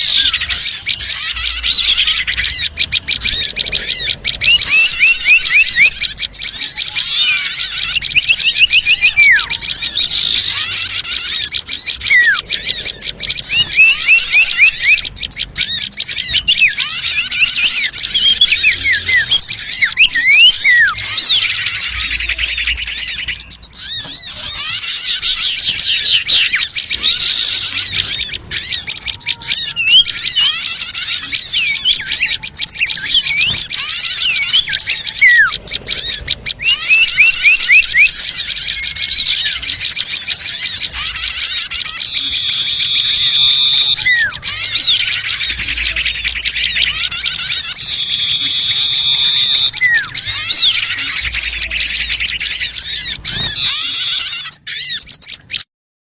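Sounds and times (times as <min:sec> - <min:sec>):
flock of small birds chirping: 0:00.0 - 0:55.7.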